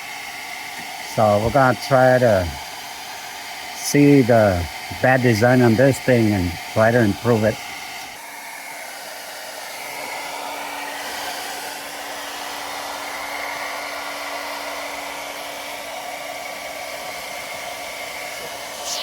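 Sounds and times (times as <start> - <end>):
electric blower rushing air: 0.0 - 19.0.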